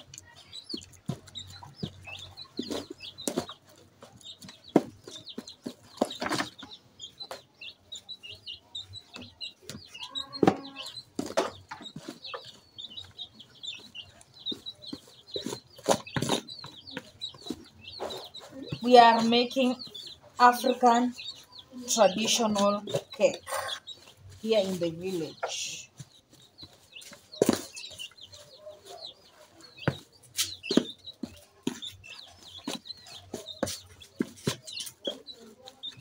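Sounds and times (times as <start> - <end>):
chickens clucking: 0.0 - 36.0
small birds chirping: 0.0 - 36.0.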